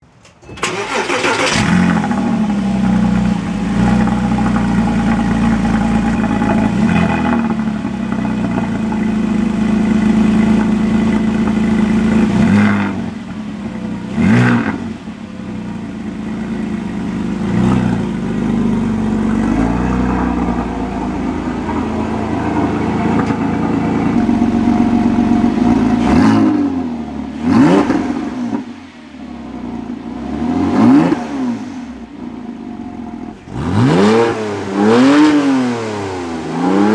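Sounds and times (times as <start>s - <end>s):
car engine idling: 0.1s - 30.4s, 31.9s - 36.9s
car engine revving: 0.6s - 36.9s.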